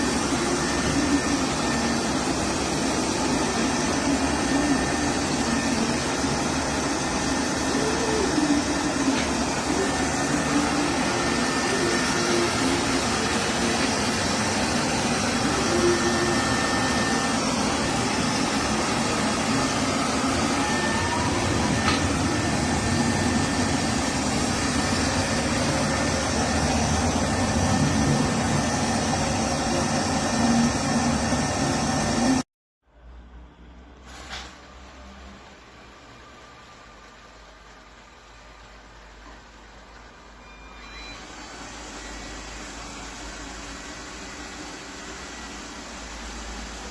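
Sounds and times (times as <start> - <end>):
robot vacuum cleaner whirring: 0.0 - 32.4, 40.5 - 46.9.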